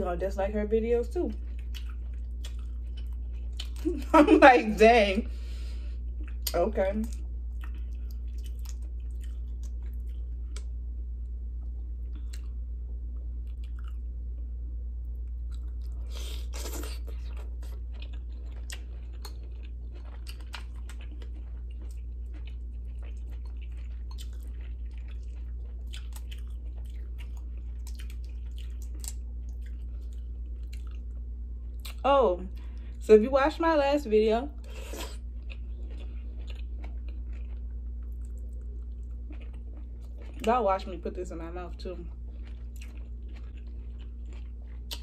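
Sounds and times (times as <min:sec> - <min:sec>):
low hum: 0:00.0 - 0:45.0
person chewing: 0:01.4 - 0:04.0, 0:05.5 - 0:10.8, 0:11.6 - 0:14.1, 0:15.1 - 0:32.0, 0:34.6 - 0:40.5, 0:42.0 - 0:45.0.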